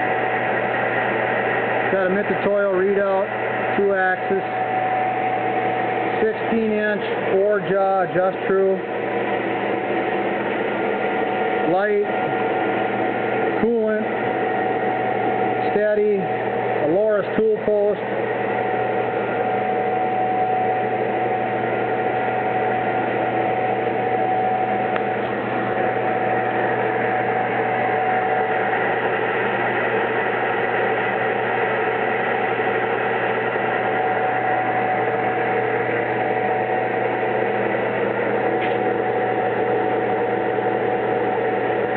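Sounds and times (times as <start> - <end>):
constant whine: 0.0 - 41.9
lathe humming: 0.0 - 41.9.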